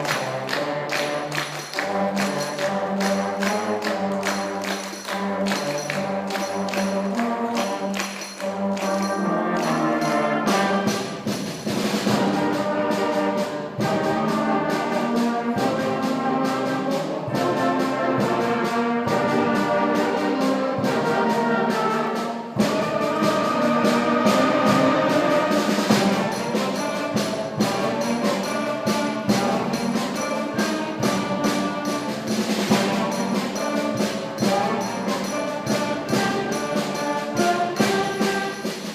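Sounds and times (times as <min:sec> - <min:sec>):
brass melody: 0:00.0 - 0:38.9
percussion: 0:00.0 - 0:38.9.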